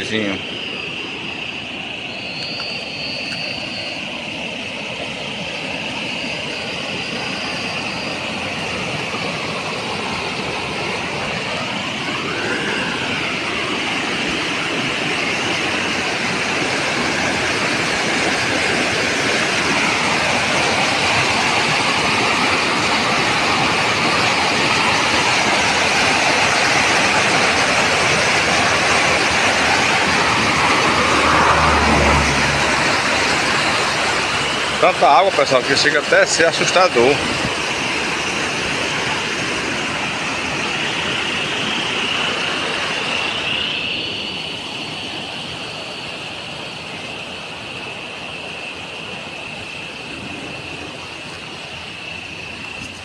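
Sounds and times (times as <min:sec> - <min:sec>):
floodwater rushing and churning: 0:00.0 - 0:53.0.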